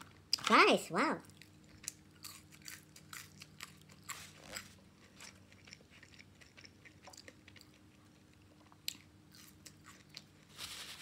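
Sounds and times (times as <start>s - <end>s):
person chewing fries: 1.2s - 10.6s.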